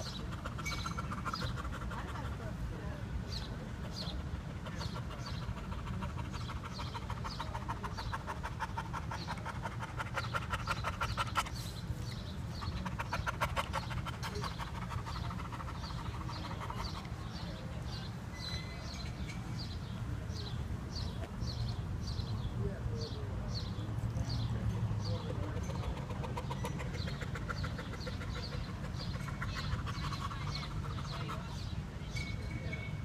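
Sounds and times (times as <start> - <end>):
dog panting: 0.0 - 19.0, 24.2 - 32.1.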